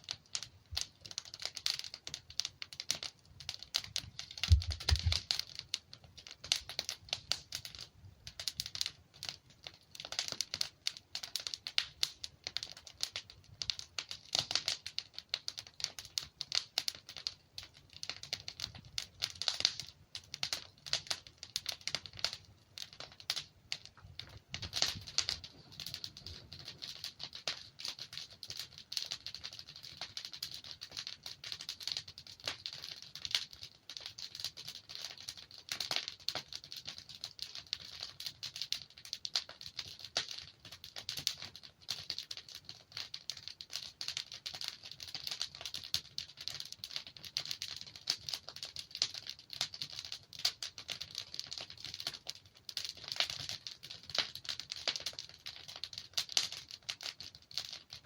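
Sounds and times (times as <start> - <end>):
burning logs crackling: 0.0 - 58.0.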